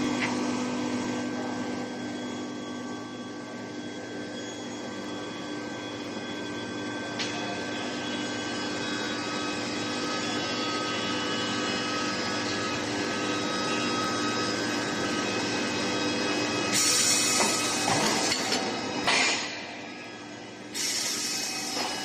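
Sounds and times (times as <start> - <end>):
industrial drone: 0.0 - 22.0.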